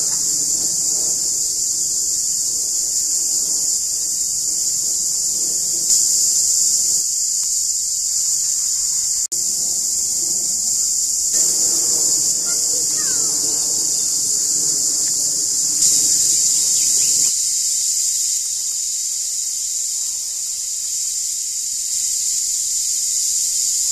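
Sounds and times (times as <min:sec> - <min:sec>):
cicadas droning in chorus: 0:00.0 - 0:23.9.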